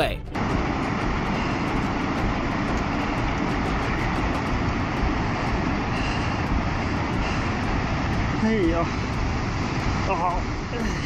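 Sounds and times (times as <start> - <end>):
surf at the shore: 0.0 - 11.0
wind: 0.0 - 11.0.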